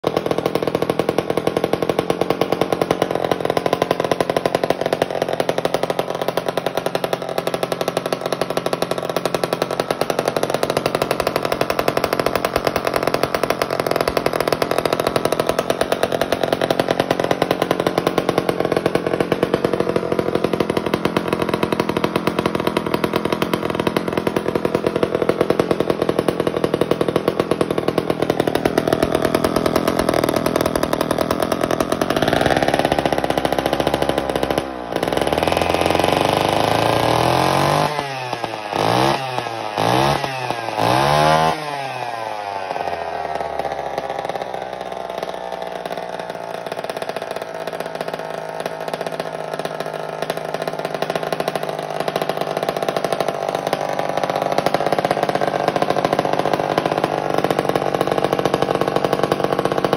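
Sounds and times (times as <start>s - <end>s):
chainsaw engine running: 0.0s - 59.9s.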